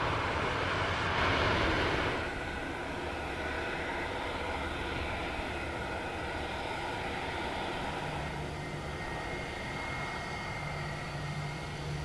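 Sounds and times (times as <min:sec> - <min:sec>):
jet engines idling: 0:00.0 - 0:12.0.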